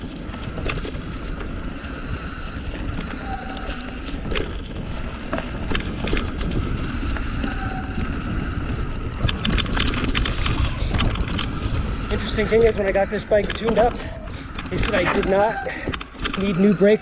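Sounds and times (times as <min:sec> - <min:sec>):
bike clicking and rattling: 0:00.0 - 0:17.0
bike tyres rumbling on dirt: 0:00.0 - 0:17.0
wind on microphone: 0:00.0 - 0:17.0.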